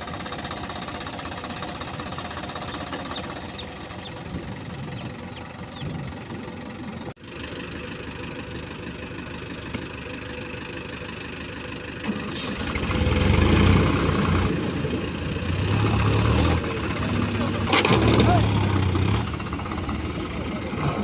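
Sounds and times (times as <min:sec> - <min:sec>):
diesel tractor engine revving: 0:00.0 - 0:21.0.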